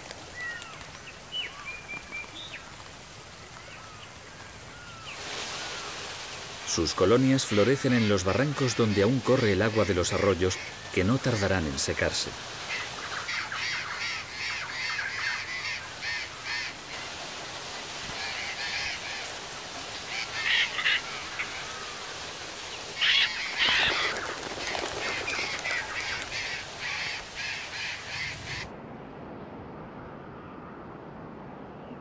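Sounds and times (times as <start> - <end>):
faint steady hiss: 0.0 - 29.3.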